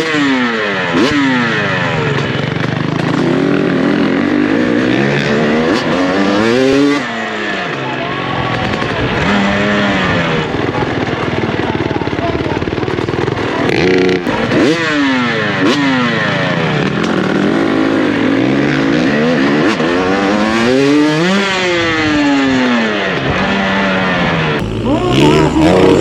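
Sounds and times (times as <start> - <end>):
motorbike engines revving: 0.0 - 26.0.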